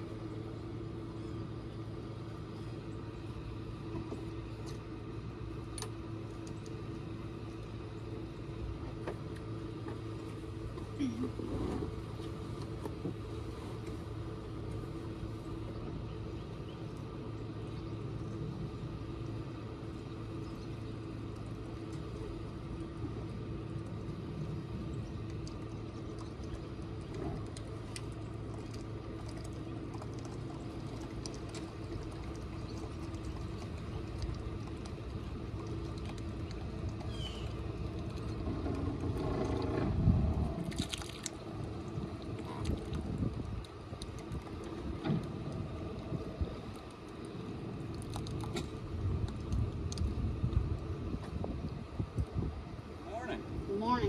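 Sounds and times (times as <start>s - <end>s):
boat motor humming: 0.0s - 54.0s.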